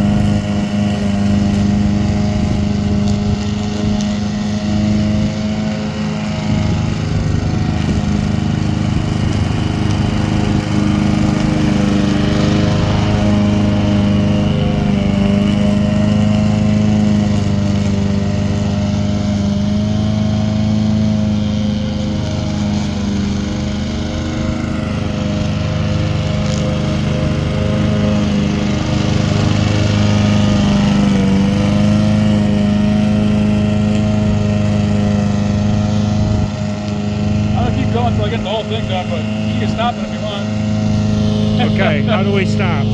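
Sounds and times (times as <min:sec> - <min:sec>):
remote-control lawn mower running: 0:00.0 - 0:42.9.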